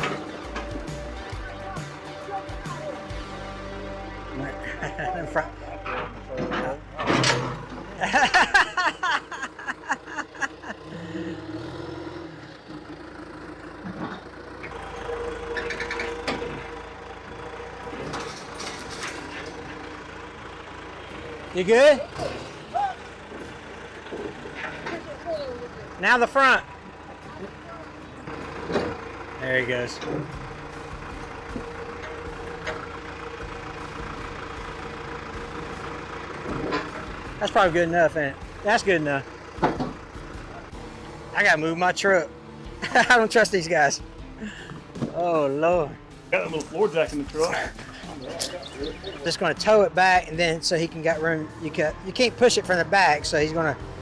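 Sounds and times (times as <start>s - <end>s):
heavy equipment engine running: 0.0s - 54.0s.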